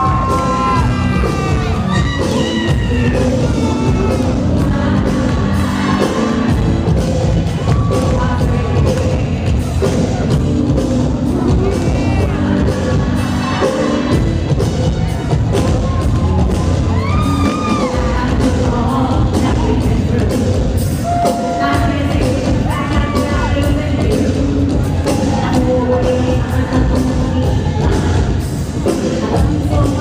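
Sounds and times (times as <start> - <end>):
woman singing: 0.0 - 10.3, 11.1 - 14.3, 16.9 - 30.0.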